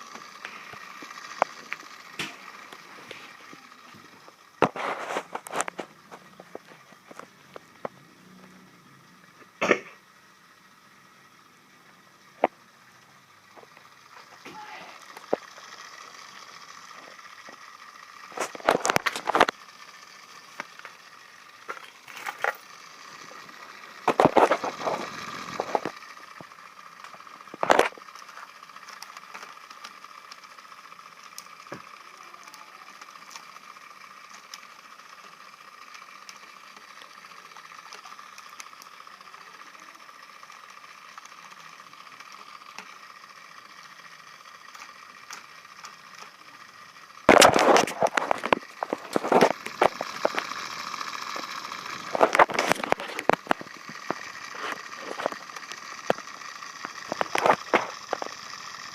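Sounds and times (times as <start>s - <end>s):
small motor high whine: 0.0s - 58.9s.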